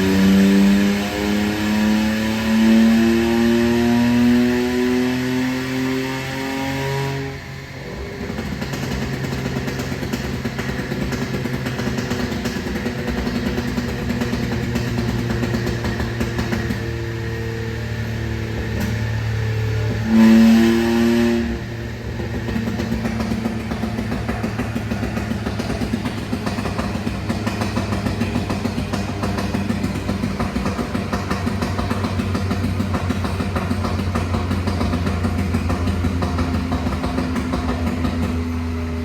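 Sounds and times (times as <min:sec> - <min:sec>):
engine revving: 0:00.0 - 0:39.0
exhaust crackling and popping: 0:00.0 - 0:39.0.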